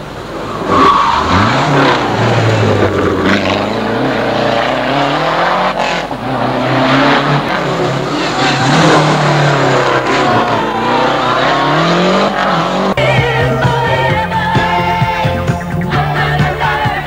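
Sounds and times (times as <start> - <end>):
rally car engine running hard: 0.0 - 14.1.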